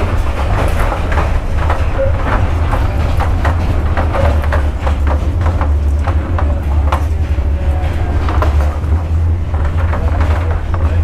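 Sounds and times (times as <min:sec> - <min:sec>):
train rumbling: 0:00.0 - 0:11.0
wheels clattering over rails: 0:00.0 - 0:11.0.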